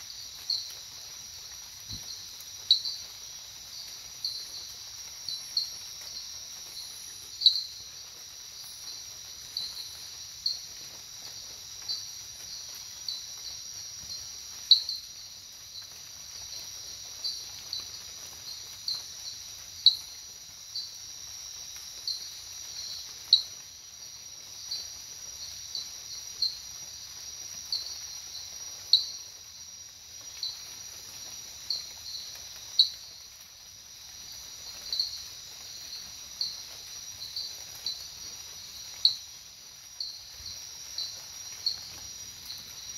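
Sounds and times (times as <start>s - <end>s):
insect chirps: 0.0s - 42.9s
insects trilling: 0.0s - 42.9s.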